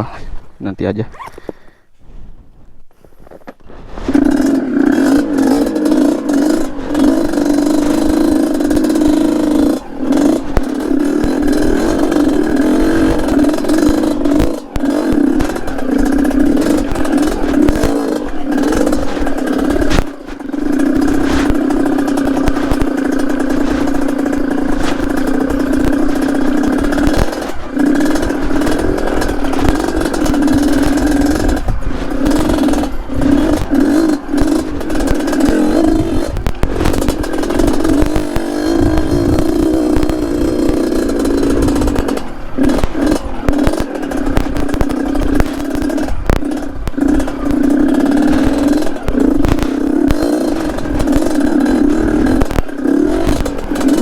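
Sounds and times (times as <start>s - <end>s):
two-stroke motorcycle engine revving: 3.9s - 54.0s.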